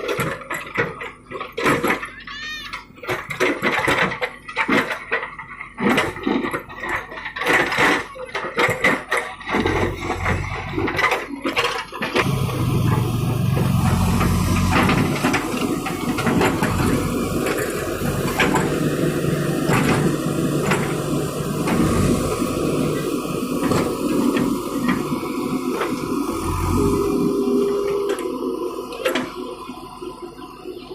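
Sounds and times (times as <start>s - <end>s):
sharp knocks and clatter: 0.0s - 2.1s, 3.0s - 26.2s
heavy machine engine running: 2.8s - 30.9s.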